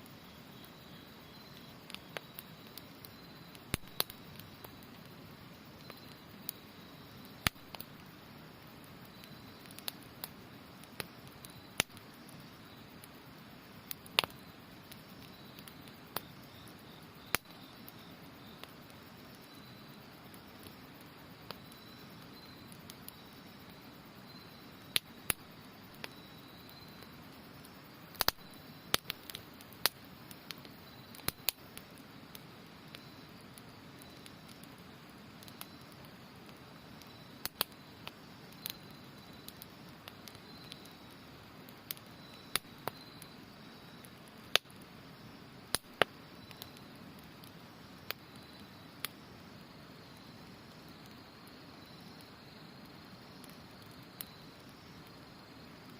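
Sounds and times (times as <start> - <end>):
campfire crackling: 0.0 - 55.9
insects trilling: 0.0 - 55.9.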